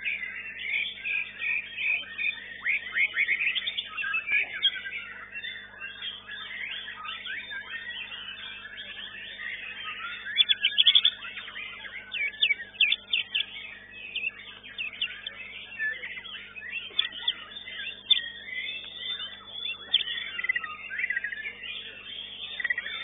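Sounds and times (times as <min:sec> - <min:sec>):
bird whistles and chirps: 0:00.0 - 0:23.0.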